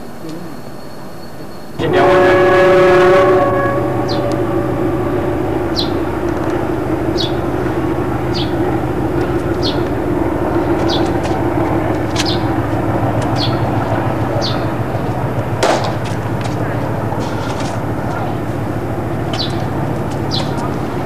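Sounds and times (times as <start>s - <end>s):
steady low rumble: 1.8s - 21.0s.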